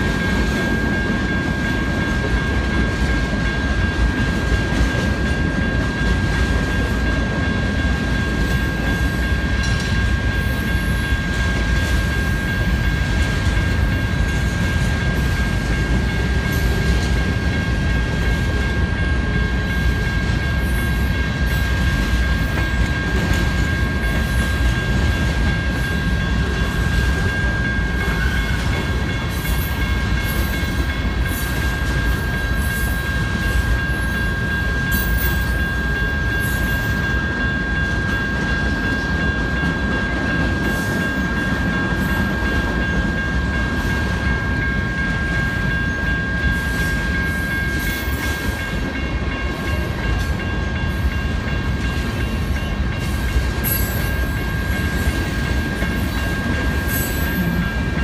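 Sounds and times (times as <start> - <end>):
crossing warning bells ringing: 0.0 - 58.0
freight train rumbling past: 0.0 - 58.0.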